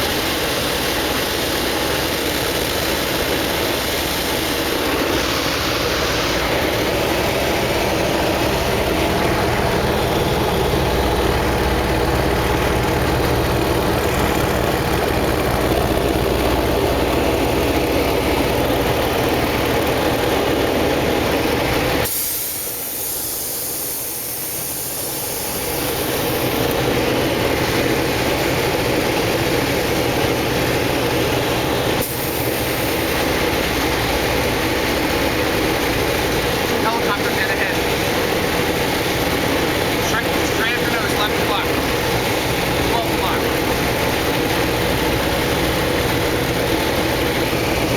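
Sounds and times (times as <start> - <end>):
engine rumble: 0.0 - 47.9.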